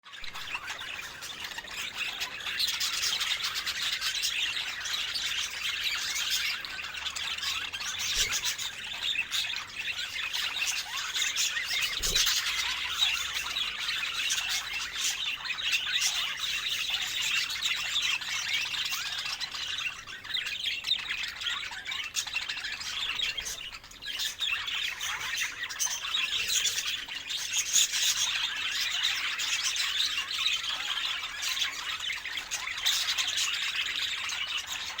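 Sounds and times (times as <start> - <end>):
budgerigars chattering: 0.2 - 35.0.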